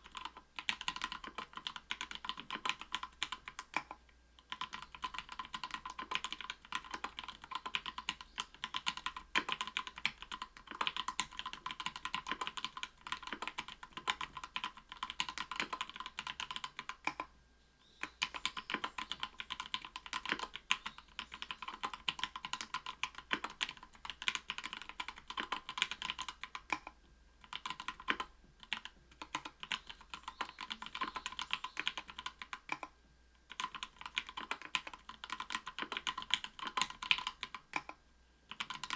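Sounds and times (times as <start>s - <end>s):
fast typing on mechanical keyboard: 0.0s - 17.3s, 18.2s - 32.9s, 33.5s - 38.9s.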